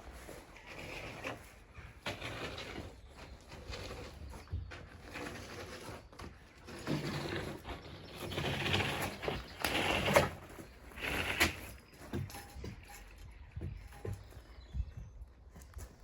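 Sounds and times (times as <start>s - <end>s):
scraping and shuffling of timber: 0.0s - 16.0s.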